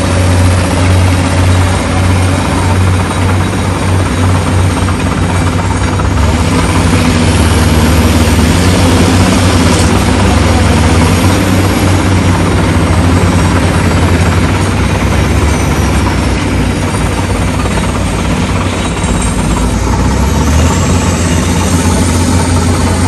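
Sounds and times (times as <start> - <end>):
road and cab noise: 0.0 - 23.0
truck diesel engine droning: 0.0 - 23.0.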